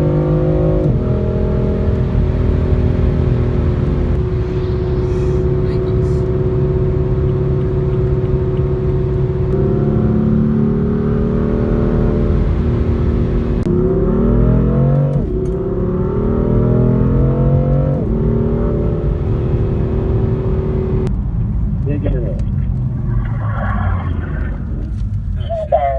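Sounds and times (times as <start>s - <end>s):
car engine accelerating: 0.0s - 25.9s.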